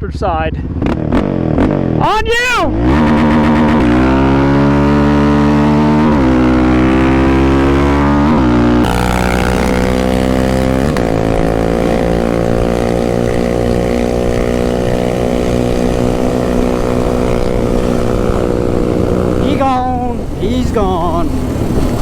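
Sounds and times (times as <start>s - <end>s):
atv engines racing: 0.0s - 22.0s.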